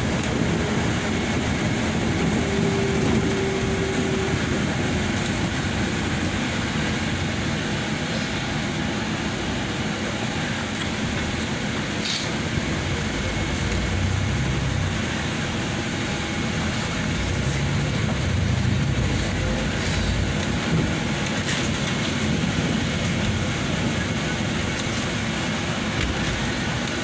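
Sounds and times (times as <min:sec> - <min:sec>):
bus engine rumbling: 0:00.0 - 0:27.0
road and tyre noise: 0:00.0 - 0:27.0.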